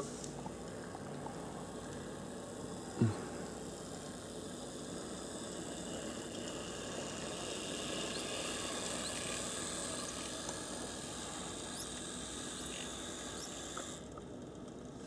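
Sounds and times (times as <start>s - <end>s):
model train motor whirring: 2.3s - 15.0s.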